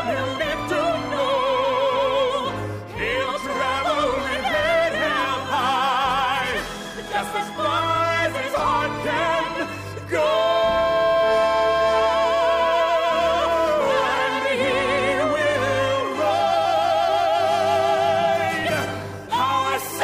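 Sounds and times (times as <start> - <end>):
operatic singing: 0.0 - 20.0
orchestra playing: 0.0 - 20.0.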